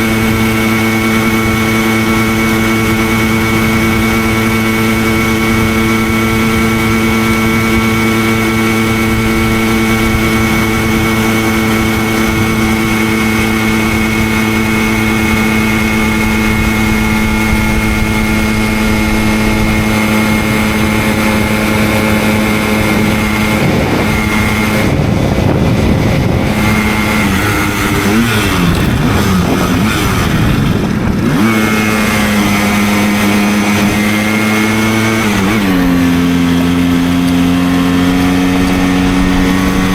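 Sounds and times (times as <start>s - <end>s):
moped two-stroke engine running: 0.0s - 39.9s.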